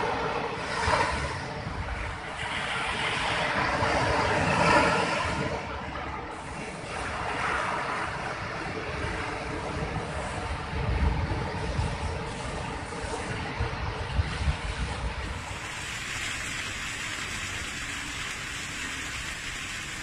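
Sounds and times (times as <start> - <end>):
sea surf: 0.0 - 20.0
wind: 0.0 - 20.0.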